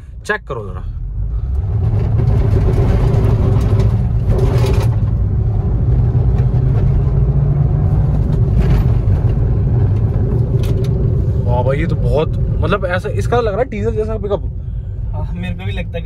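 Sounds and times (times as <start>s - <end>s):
road noise: 0.0s - 16.0s
car engine accelerating: 1.0s - 16.0s.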